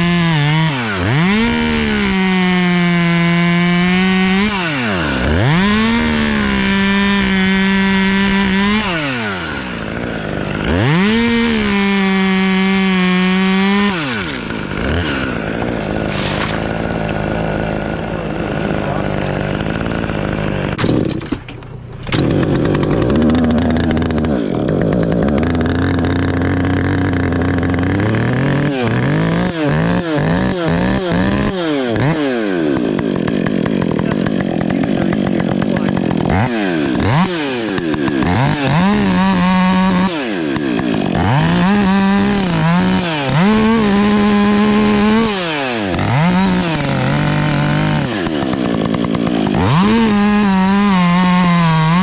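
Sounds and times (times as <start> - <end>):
chainsaw engine revving: 0.0 - 52.0.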